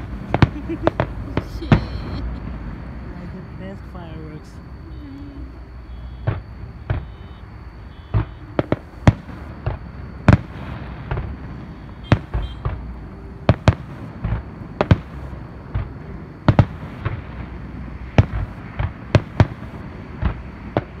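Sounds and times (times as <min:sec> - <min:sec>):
fireworks bursting with sharp bangs: 0:00.0 - 0:21.0
low background rumble: 0:00.0 - 0:21.0.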